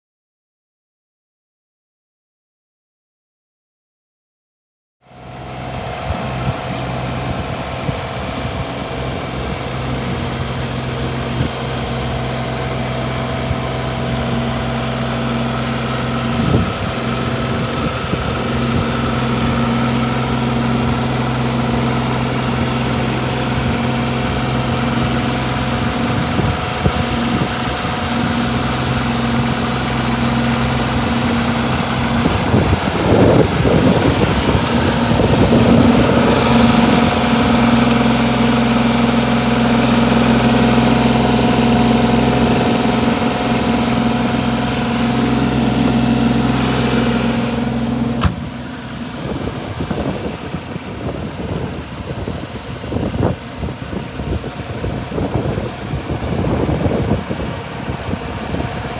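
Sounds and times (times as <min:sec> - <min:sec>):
diesel engine idling: 0:05.1 - 0:58.9.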